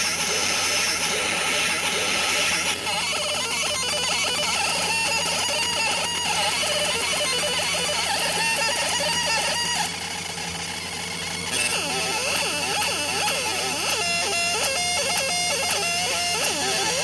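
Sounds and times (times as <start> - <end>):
laser head chirping and whining: 0.0 - 17.0
steady machine hum: 0.0 - 17.0.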